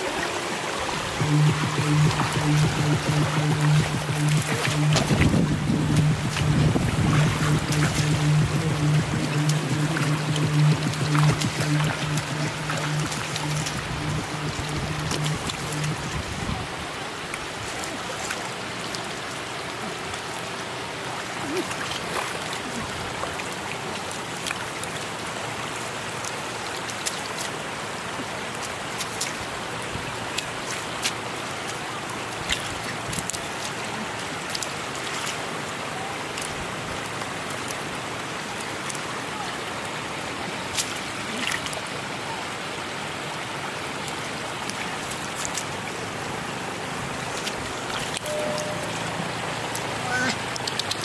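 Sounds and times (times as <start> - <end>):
water rushing over road: 0.0 - 51.0.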